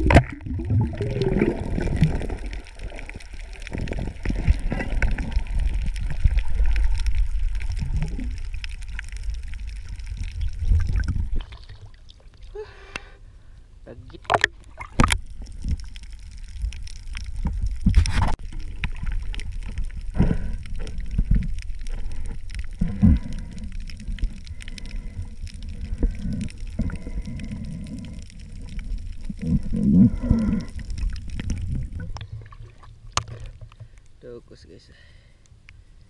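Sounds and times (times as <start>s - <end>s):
underwater gurgling and bubbling: 0.0s - 12.5s, 14.2s - 34.0s
low underwater rumble: 0.0s - 12.6s, 13.4s - 34.2s.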